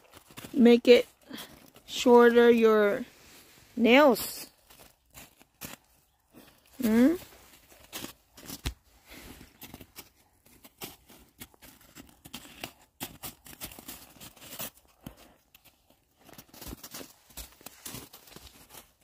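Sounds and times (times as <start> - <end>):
dog paws crunching in snow: 0.0 - 19.0.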